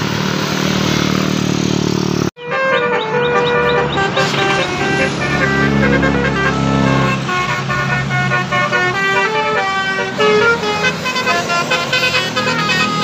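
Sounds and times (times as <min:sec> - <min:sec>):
multi-tone bus horn tune: 0:02.4 - 0:13.0.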